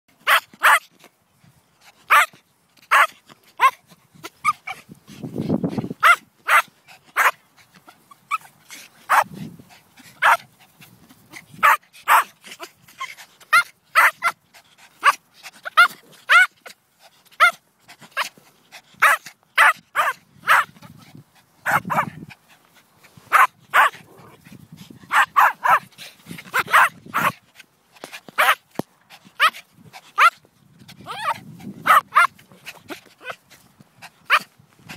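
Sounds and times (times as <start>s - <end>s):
small dogs yapping: 0.2s - 0.9s, 2.1s - 5.0s, 5.9s - 16.8s, 17.4s - 18.4s, 19.0s - 21.0s, 21.6s - 27.4s, 28.0s - 34.9s.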